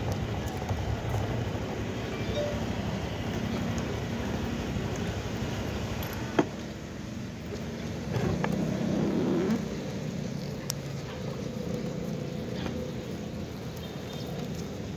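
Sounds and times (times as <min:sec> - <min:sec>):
traffic hum: 0:00.0 - 0:14.9.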